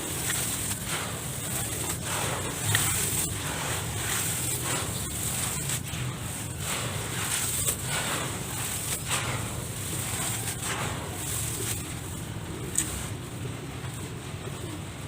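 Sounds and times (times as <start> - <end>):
dirt scraping: 0.0 - 13.9
hands rustling gritty dirt: 0.0 - 15.0.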